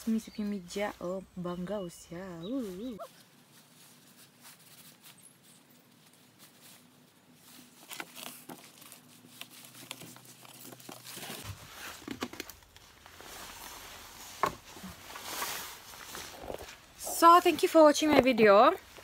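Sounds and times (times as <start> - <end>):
hands rustling potting soil: 0.0 - 19.0.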